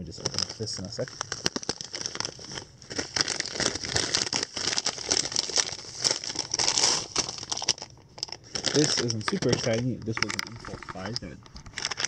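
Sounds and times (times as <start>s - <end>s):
packaging crinkling: 0.1s - 12.0s.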